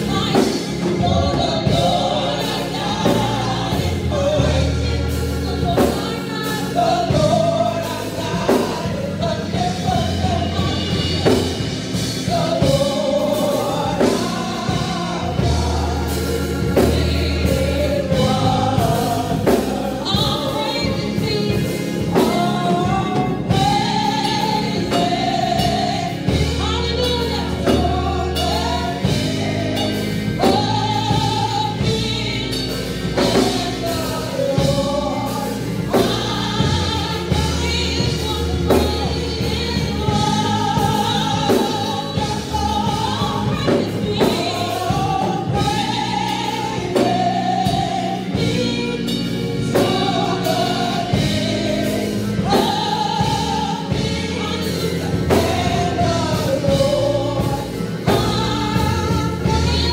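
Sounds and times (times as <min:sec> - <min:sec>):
band playing gospel music: 0:00.0 - 0:59.9
bass line: 0:00.0 - 0:59.9
choir singing: 0:00.0 - 0:59.9
steady drum beat: 0:00.0 - 0:59.9.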